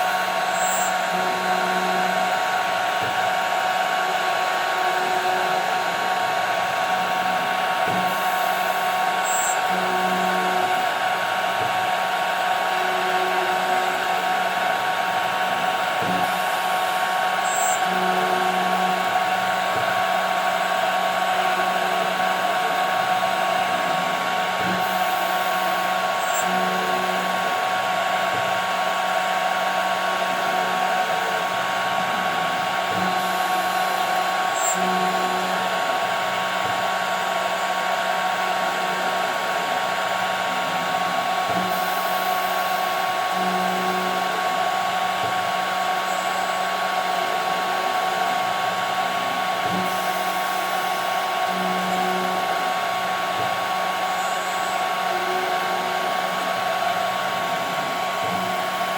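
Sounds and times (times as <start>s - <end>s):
axis motors low hums: 0.0s - 58.9s
machine hiss: 0.0s - 58.9s
router spindle high whine: 0.0s - 58.9s.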